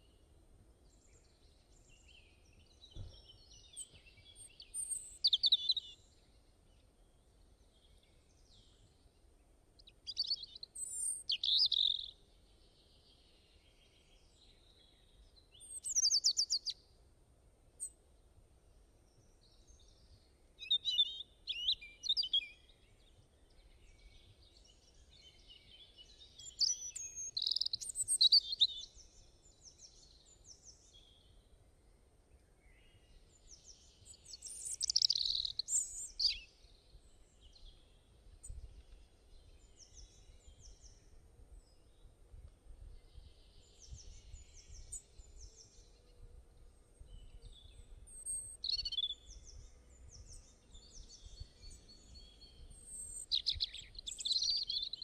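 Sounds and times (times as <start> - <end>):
songbirds singing and chirping: 0.0 - 17.1, 17.7 - 55.0.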